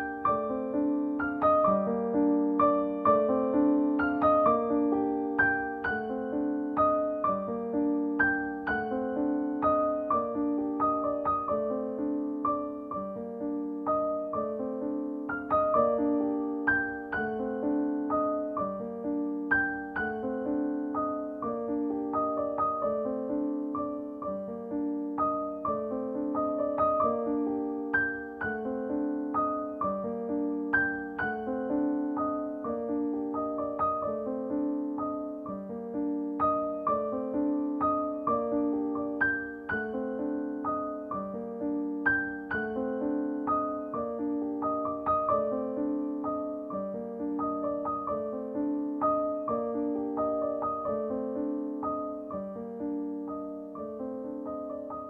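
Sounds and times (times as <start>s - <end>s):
gentle piano piece: 0.0s - 55.0s.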